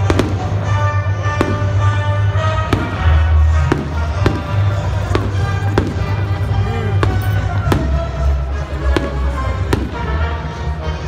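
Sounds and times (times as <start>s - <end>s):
fireworks bursting: 0.0s - 10.5s.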